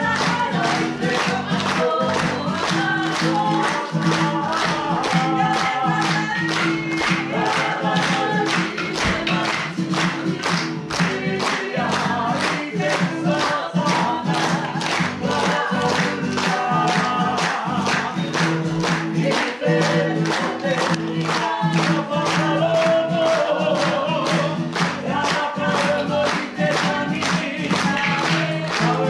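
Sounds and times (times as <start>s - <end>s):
group singing in unison: 0.0s - 29.0s.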